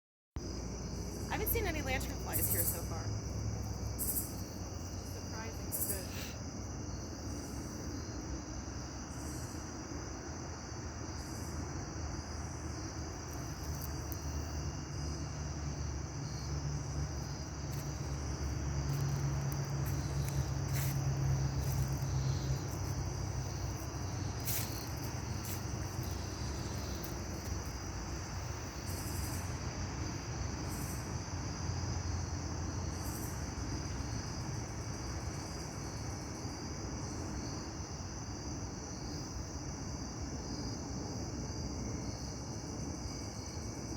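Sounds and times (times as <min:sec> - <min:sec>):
insects trilling: 0:00.4 - 0:43.9.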